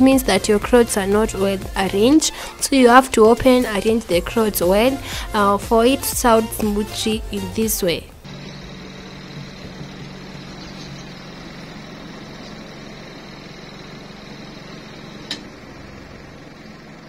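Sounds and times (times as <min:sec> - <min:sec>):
spin-dryer humming with faint whine: 0:00.0 - 0:17.0.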